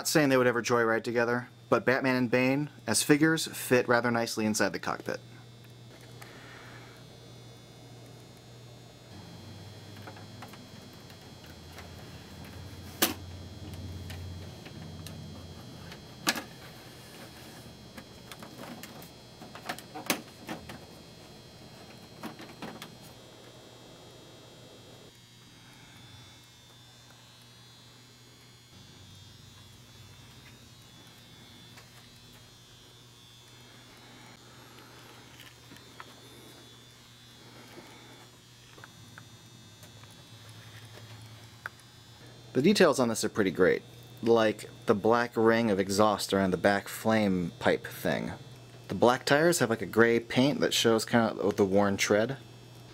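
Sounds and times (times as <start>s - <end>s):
low hum: 1.4s - 51.6s.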